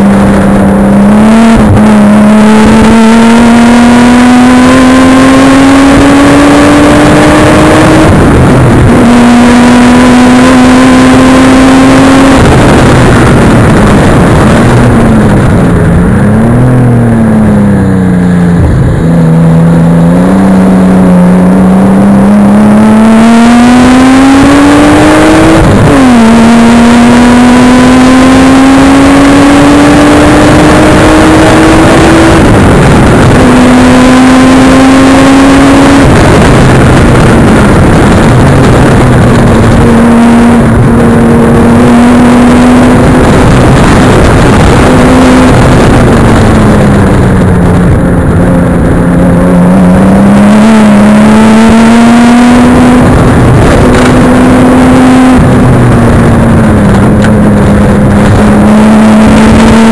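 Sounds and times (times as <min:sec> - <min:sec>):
car engine accelerating hard: 0:00.0 - 0:59.9.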